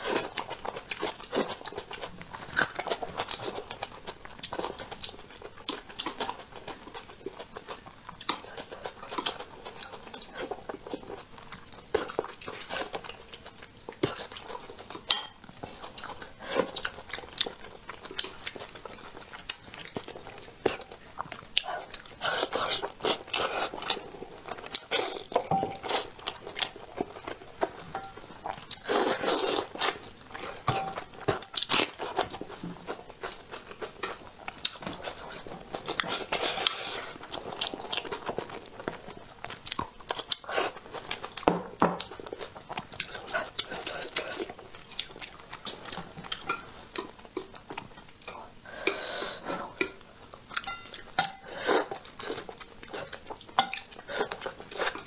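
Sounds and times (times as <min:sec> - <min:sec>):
person chewing fish: 0:00.0 - 0:55.0.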